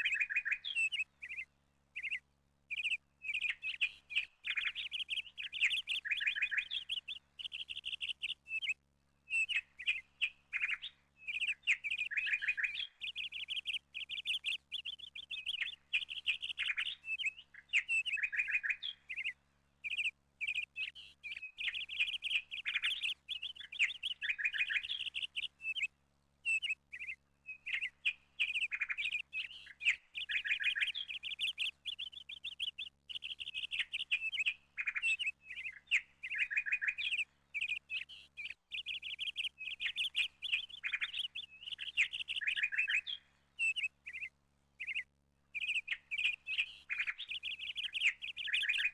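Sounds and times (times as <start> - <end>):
small songbird chirping: 0.0 - 48.9.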